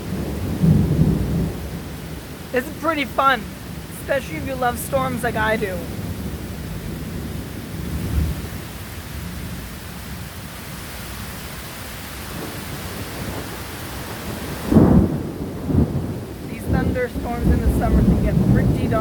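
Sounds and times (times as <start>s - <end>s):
thunder rumbling: 0.0s - 8.6s, 12.3s - 19.0s
heavy rain pouring: 0.0s - 19.0s.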